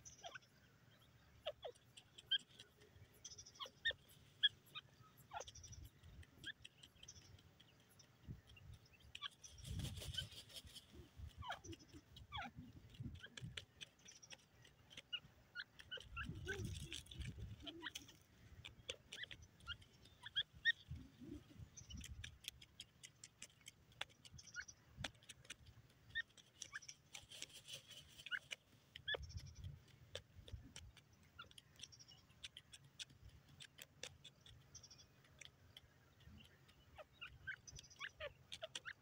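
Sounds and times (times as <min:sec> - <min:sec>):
soft bird chirps: 0:00.0 - 0:39.0
dry soil clicks and rustles: 0:05.7 - 0:39.0.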